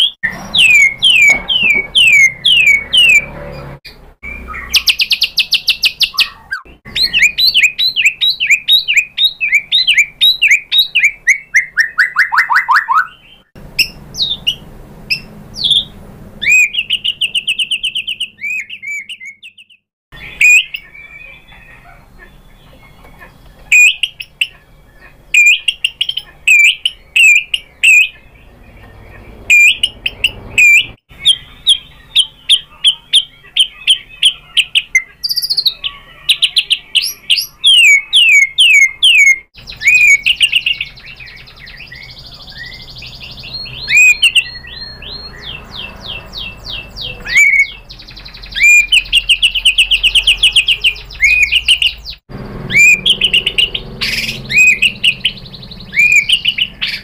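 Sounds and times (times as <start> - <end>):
bird singing whistled notes: 0.0 - 57.0.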